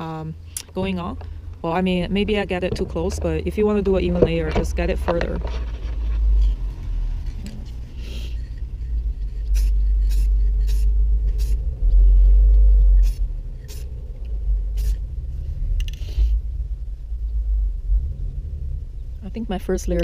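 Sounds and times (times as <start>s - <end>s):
wind rumbling on microphone: 0.7s - 7.9s, 10.9s - 20.0s.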